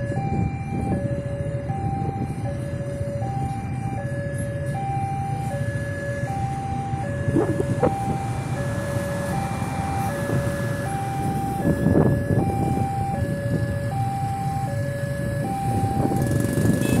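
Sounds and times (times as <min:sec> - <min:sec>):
level crossing two-tone alarm: 0:00.0 - 0:17.0
passing train rumble and clatter: 0:02.2 - 0:17.0.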